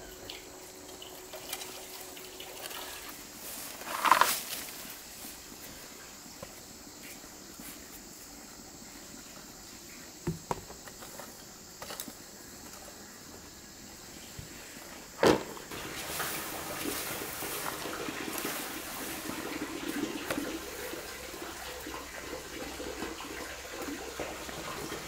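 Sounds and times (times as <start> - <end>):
forest insects droning: 0.0 - 25.0.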